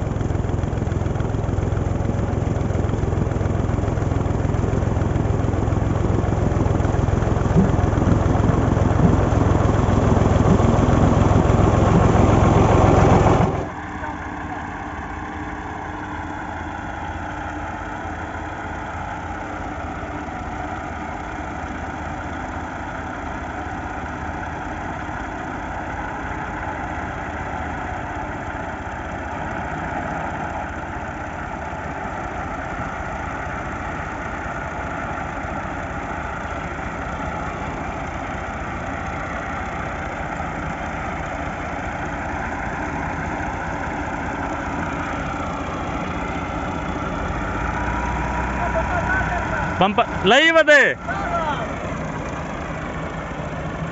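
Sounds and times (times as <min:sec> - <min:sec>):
tractor diesel engines under load: 0:00.0 - 0:53.9.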